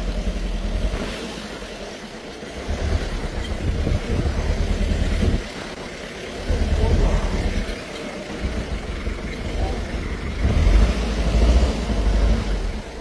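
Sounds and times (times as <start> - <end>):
jeep engines low rumble: 0.0 - 13.0.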